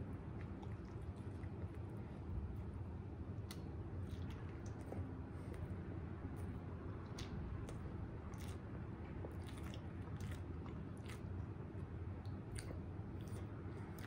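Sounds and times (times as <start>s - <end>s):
person chewing wetly: 0.0s - 14.0s
steady low hum: 0.0s - 14.0s.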